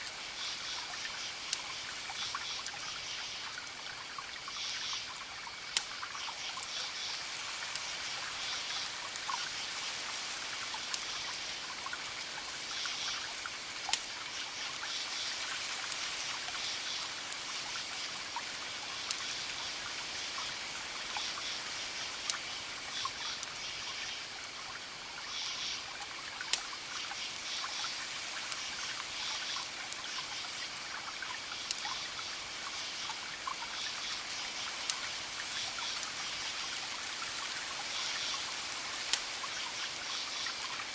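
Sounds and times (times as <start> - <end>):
faint high insect tone: 0.0 - 40.9
campfire crackling and popping: 0.1 - 21.4, 22.0 - 40.9.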